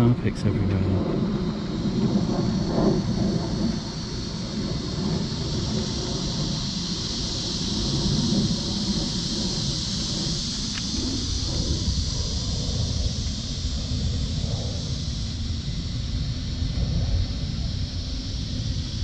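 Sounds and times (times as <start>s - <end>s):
cicadas calling: 0.0s - 19.0s
wind rumble on microphone: 0.0s - 19.0s.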